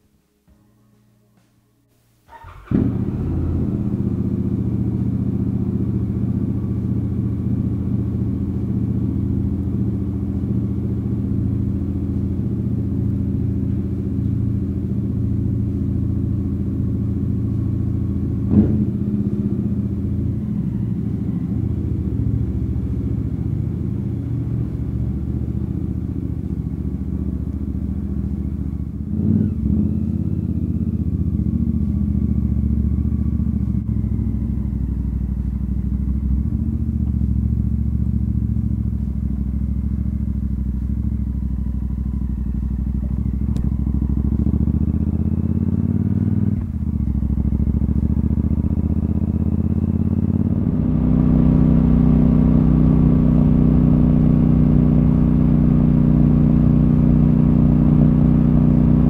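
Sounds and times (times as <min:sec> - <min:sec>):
motorcycle engine running: 0:02.3 - 0:59.0.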